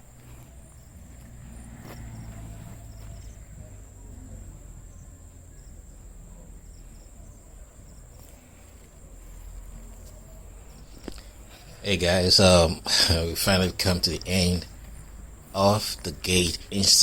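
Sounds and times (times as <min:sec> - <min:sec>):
insect chirps: 0:00.0 - 0:17.0
insects droning: 0:00.0 - 0:17.0.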